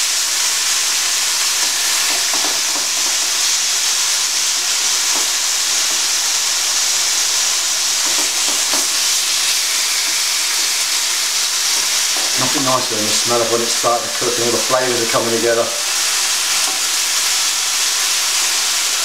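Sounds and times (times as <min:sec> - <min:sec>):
chicken sizzling in a frying pan: 0:00.0 - 0:19.0.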